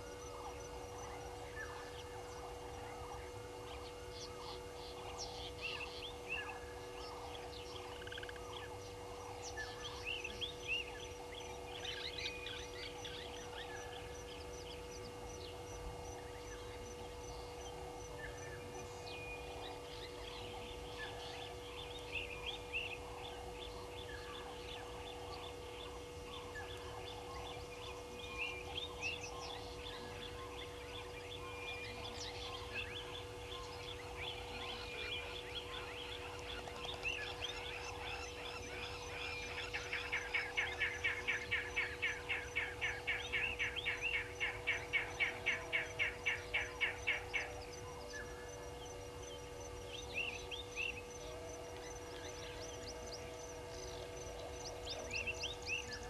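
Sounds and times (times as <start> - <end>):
birds chirping: 0.0 - 56.0
faint steady hum: 0.0 - 56.0.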